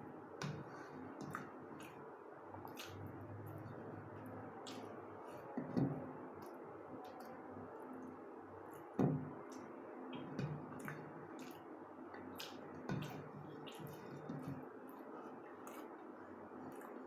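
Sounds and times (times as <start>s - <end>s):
low steady hum: 0.0s - 17.0s
wet eating sounds: 0.4s - 17.0s.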